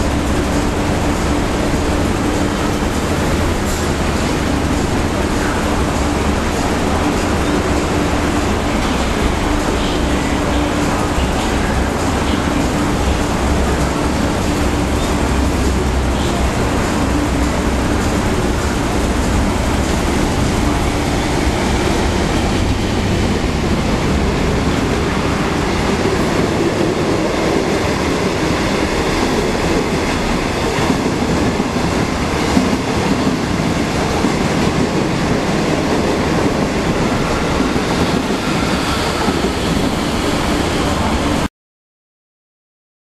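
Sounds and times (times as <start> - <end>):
train wheels rumbling on rail: 0.0 - 41.5.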